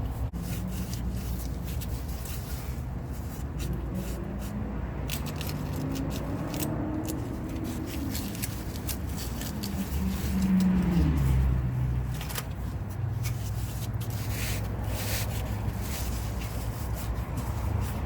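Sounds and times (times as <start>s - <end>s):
hands rustling and squishing wrap: 0.0s - 11.4s, 12.1s - 18.0s.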